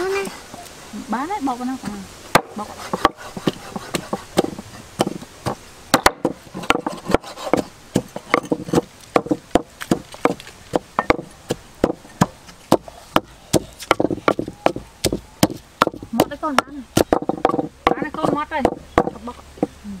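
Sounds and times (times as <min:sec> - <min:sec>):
knife chopping on wooden board: 0:02.4 - 0:19.7.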